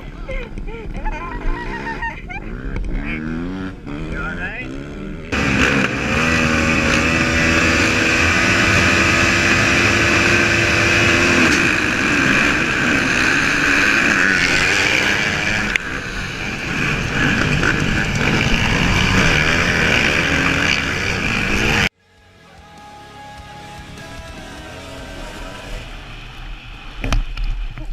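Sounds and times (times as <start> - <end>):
dirt bike engine running hard: 0.1 - 27.4.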